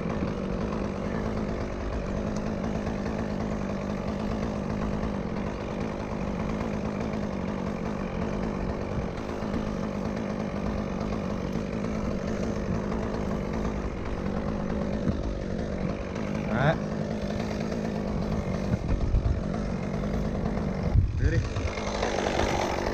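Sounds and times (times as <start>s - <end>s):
chainsaw at high revs: 0.0s - 22.9s.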